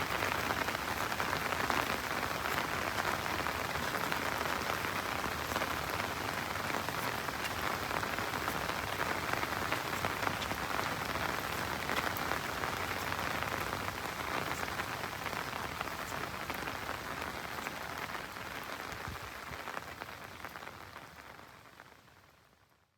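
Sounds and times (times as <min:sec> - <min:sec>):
steady rain falling: 0:00.0 - 0:22.8.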